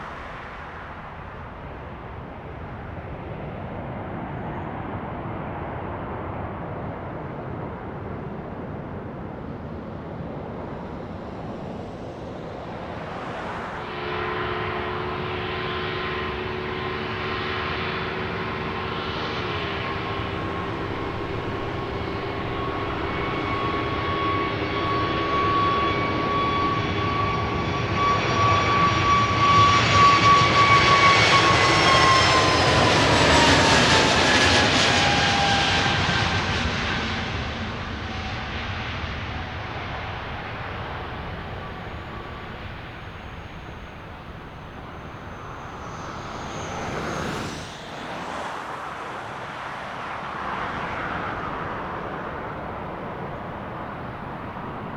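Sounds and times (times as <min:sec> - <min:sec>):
jet airliner engine whine: 0:00.0 - 0:54.9.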